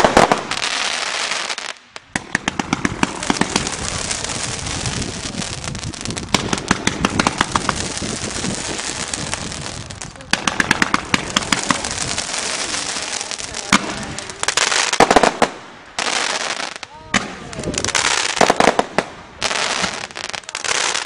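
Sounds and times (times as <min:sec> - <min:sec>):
fireworks crackling and cracking: 0:00.0 - 0:21.0.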